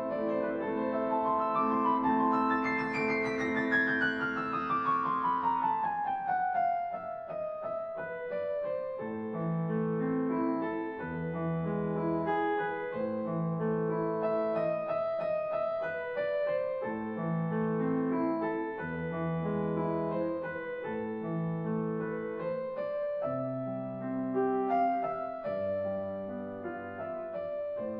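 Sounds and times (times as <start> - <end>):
slow piano music: 0.0 - 27.9.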